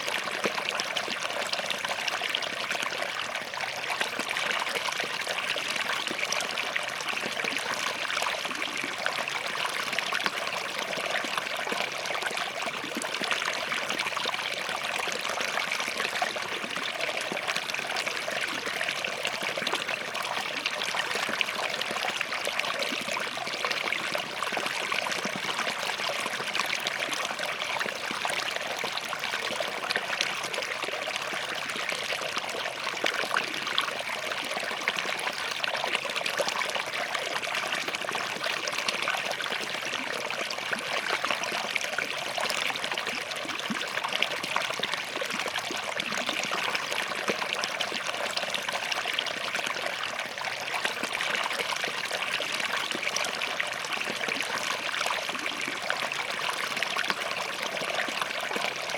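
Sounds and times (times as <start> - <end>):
stream babbling over rocks: 0.0 - 58.9.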